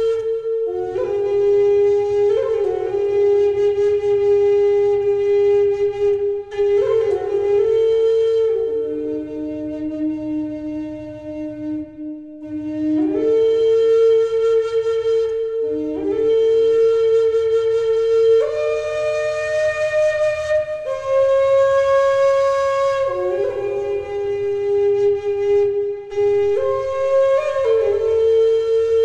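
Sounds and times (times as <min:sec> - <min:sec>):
flute playing slow melody: 0:00.0 - 0:29.0.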